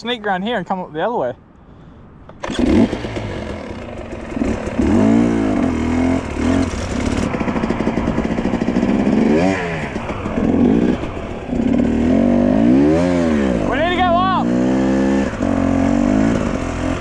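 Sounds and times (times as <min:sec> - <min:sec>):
dirt bike engine revving: 0:02.4 - 0:17.0.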